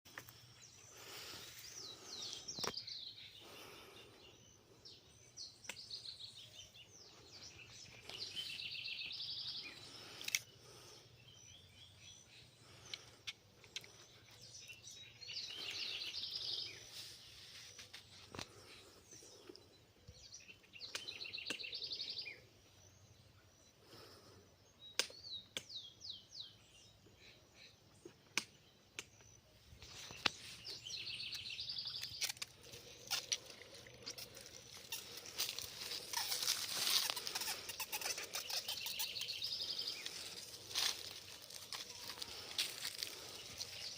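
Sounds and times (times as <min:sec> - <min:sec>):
songbirds singing trills: 0:00.1 - 0:43.9.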